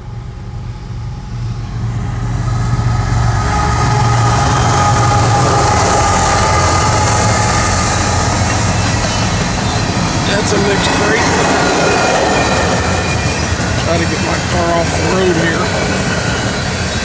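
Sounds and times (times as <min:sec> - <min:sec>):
diesel locomotives rumbling: 0:00.0 - 0:17.0
high whine: 0:00.0 - 0:17.0.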